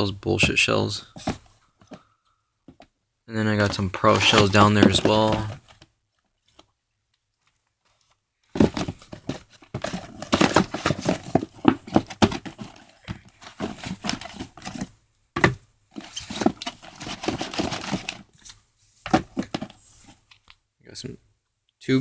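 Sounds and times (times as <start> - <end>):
cardboard packaging rustling: 0.4 - 2.0, 3.4 - 6.6, 7.4 - 20.4.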